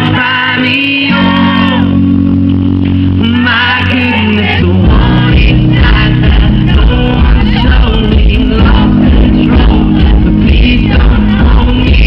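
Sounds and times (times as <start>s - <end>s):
person singing: 0.0s - 2.2s, 3.1s - 12.0s
live pop band playing: 0.0s - 12.0s
low bass notes: 0.0s - 12.0s
bass and drum beat: 1.2s - 12.0s.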